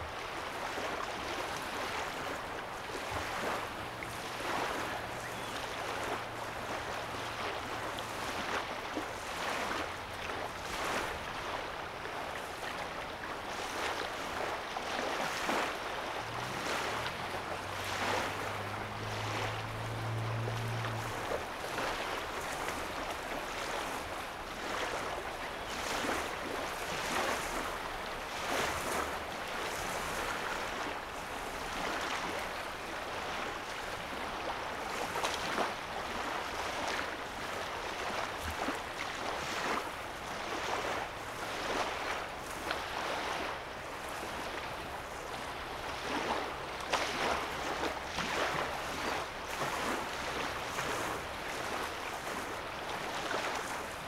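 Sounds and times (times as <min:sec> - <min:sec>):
lake waves lapping on shore: 0:00.0 - 0:54.0.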